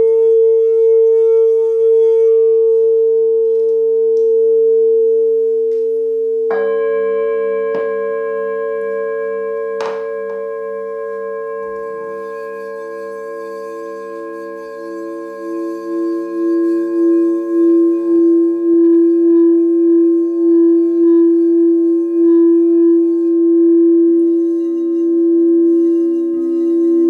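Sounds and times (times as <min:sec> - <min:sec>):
singing bowls ringing: 0:00.0 - 0:27.0
wavering bowl tone: 0:00.0 - 0:27.0.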